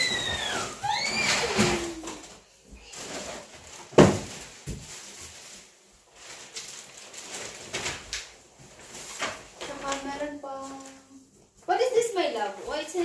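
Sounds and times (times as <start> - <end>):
hands rummaging through cardboard box: 0.0 - 11.0
paper and wrapping rustling: 0.0 - 13.0.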